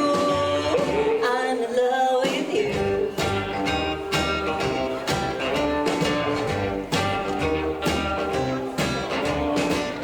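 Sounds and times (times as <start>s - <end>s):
rockabilly band playing: 0.0s - 10.0s.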